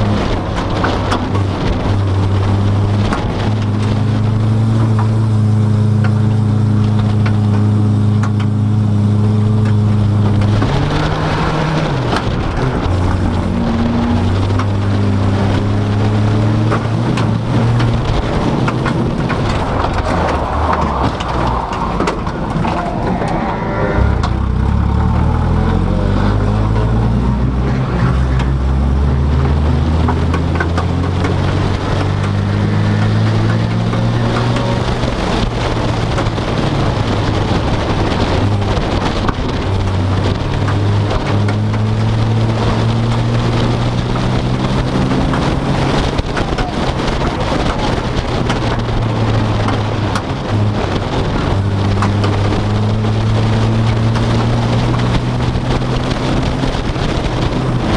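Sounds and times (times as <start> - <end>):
car engine: 0.0 - 57.9
road noise inside car: 0.0 - 57.9.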